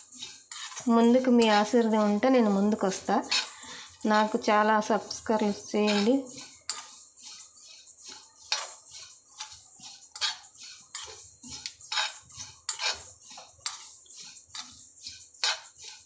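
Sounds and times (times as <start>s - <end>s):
metal spoon scraping a pan: 0.0s - 16.0s
seeds swishing in a pan: 0.0s - 16.0s.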